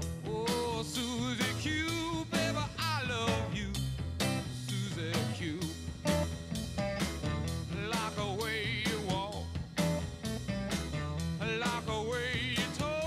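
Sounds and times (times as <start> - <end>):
rock song with vocals: 0.0 - 13.0.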